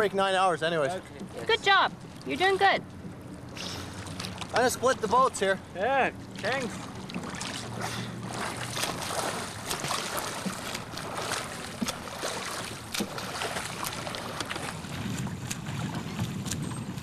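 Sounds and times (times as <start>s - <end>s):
swimmer splashing water: 0.0s - 17.0s.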